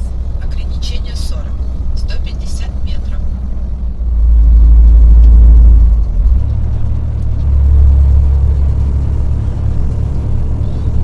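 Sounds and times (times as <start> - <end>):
truck diesel engine in cab: 0.0 - 11.0.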